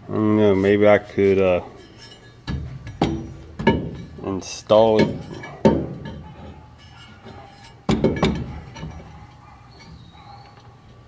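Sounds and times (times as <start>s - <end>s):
steel bracket clanking: 0.5s - 10.2s.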